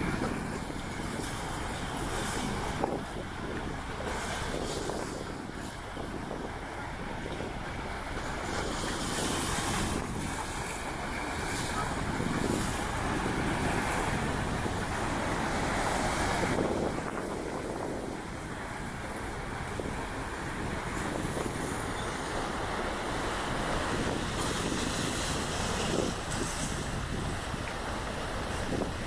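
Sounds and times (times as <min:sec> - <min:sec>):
sea waves: 0:00.0 - 0:29.0
wind buffeting microphone: 0:00.0 - 0:29.0.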